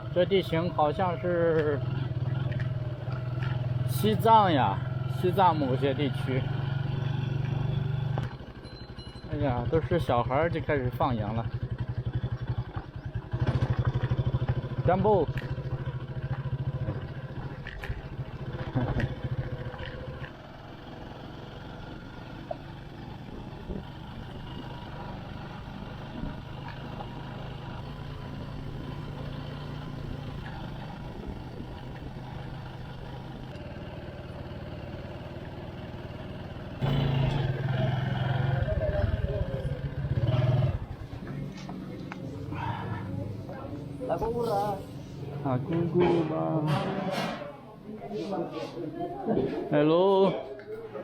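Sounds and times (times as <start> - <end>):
motorcycle engine running: 0.0 - 45.8.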